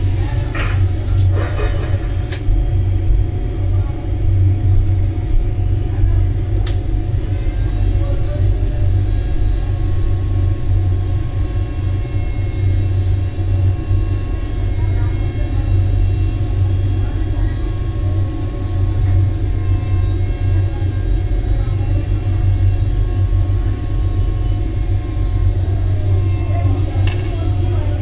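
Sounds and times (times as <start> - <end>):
low mechanical rumble with hum: 0.0 - 28.0.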